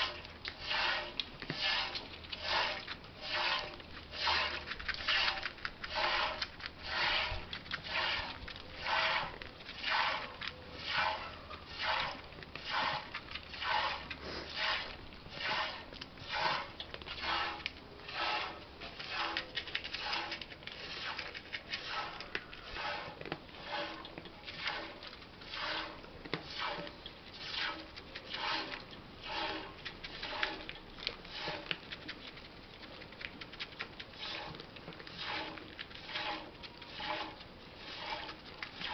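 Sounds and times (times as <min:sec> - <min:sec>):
milk squirting into a pot: 0:00.0 - 0:32.1, 0:33.1 - 0:38.9.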